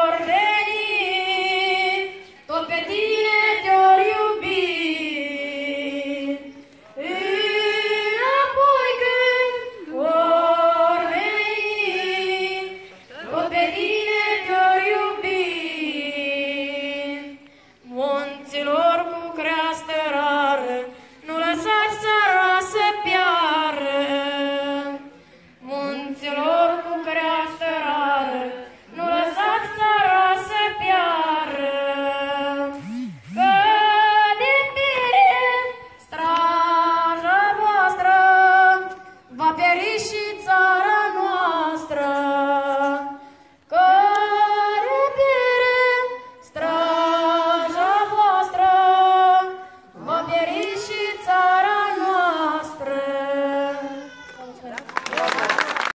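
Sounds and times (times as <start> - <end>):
women singing unaccompanied: 0.0 - 54.1.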